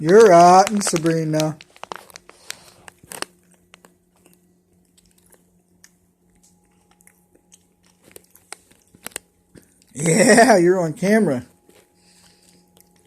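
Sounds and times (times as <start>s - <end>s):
food crunching while chewed: 0.0s - 10.2s, 11.4s - 13.0s
steady low hum: 0.0s - 13.0s.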